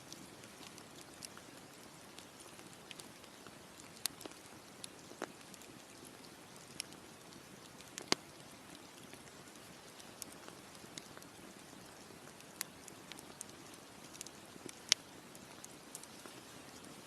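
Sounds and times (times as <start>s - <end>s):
campfire crackling and popping: 0.0s - 17.0s
soft steady hiss: 0.0s - 17.0s.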